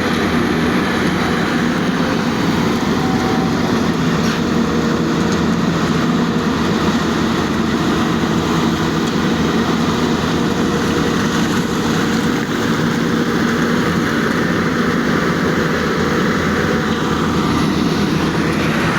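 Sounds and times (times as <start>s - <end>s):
diesel engine droning: 0.0s - 18.9s.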